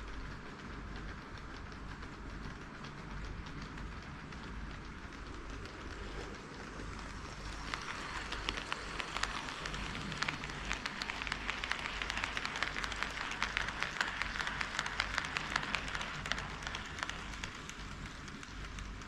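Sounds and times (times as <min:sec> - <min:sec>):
model train wheels clicking: 0:00.0 - 0:19.0.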